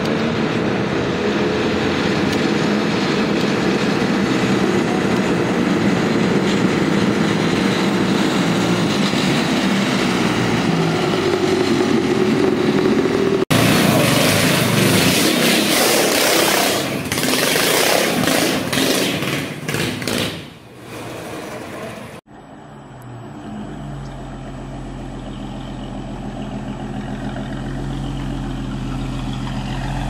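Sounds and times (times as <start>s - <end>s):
small car engine running: 0.0s - 30.0s.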